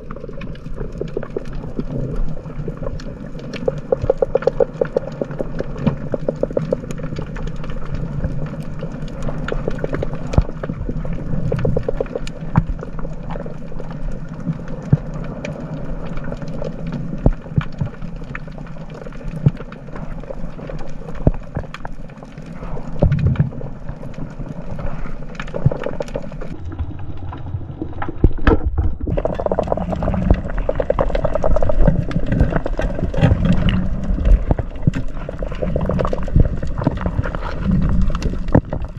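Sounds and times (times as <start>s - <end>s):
rumble of moving water: 0.0s - 38.9s
underwater crackle of clicks: 0.0s - 38.9s.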